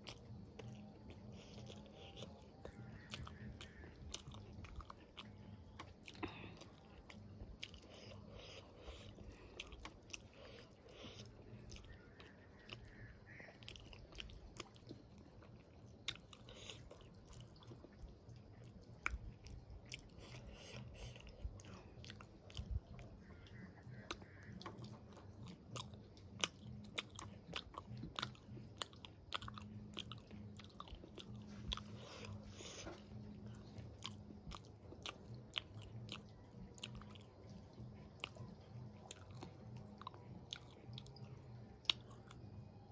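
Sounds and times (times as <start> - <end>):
chewing soft food: 0.0 - 42.9.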